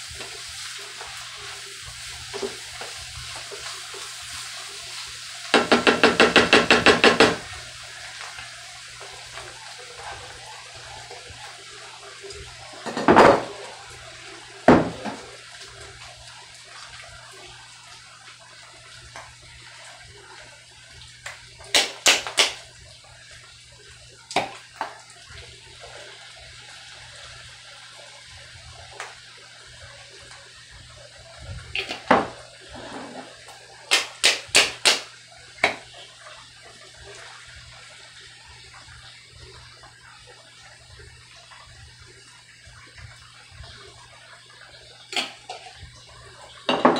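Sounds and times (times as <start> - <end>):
pan sizzling: 0.0 - 46.9.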